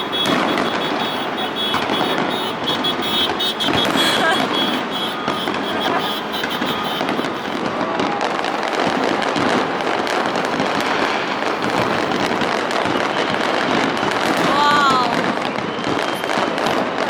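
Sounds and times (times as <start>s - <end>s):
fireworks bursting and crackling: 0.0s - 17.0s.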